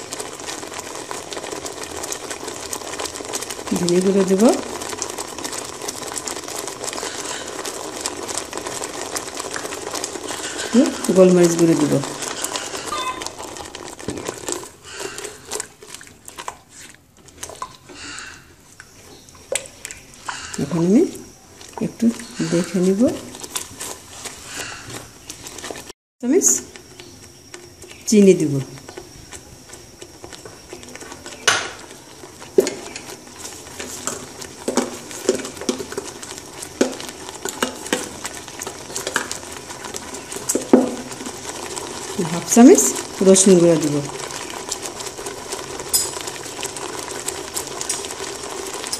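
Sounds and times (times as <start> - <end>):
sauce simmering with pops: 0.0 - 48.9.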